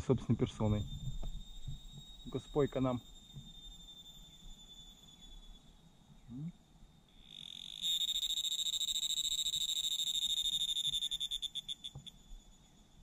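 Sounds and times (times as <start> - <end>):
cicada buzzing: 0.6 - 13.0.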